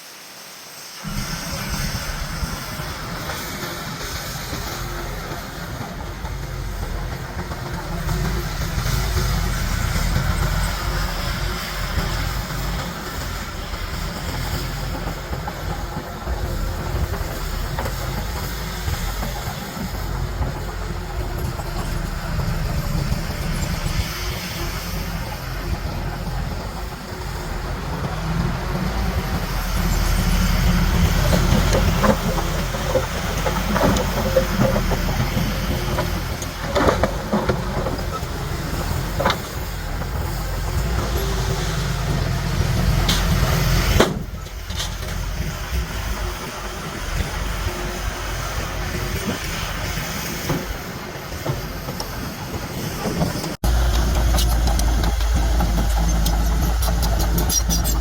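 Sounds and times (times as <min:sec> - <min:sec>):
bulldozer diesel engine rumbling: 0:01.0 - 0:58.0.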